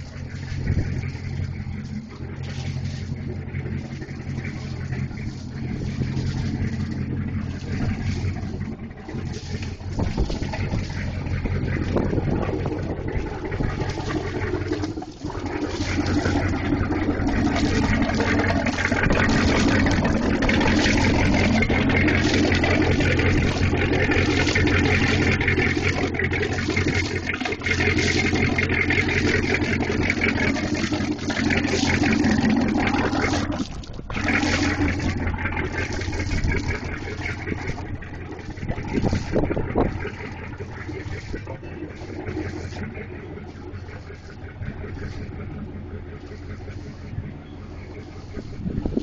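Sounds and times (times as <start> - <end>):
boat engine idling: 0.0 - 49.0
exhaust water spilling: 0.0 - 49.0.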